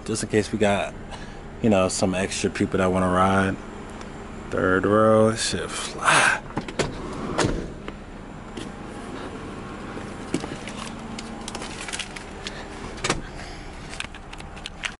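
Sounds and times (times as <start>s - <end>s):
car cabin engine hum: 0.0s - 15.0s.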